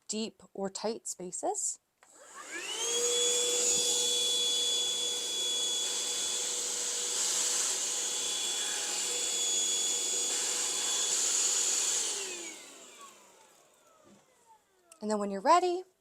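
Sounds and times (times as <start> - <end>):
vacuum motor whining: 2.1 - 15.0.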